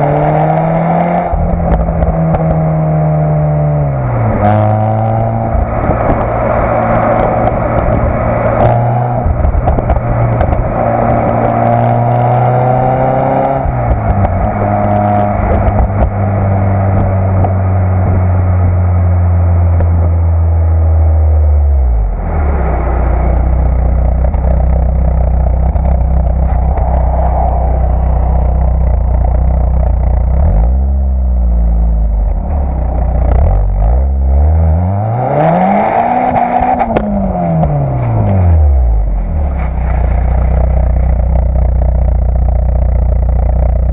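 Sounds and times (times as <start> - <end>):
car engine running: 0.0 - 34.2, 35.5 - 43.9.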